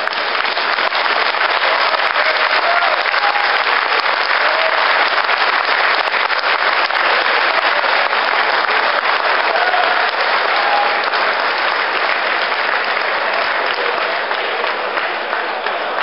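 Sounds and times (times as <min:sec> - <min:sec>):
crowd applauding and cheering: 0:00.0 - 0:16.0.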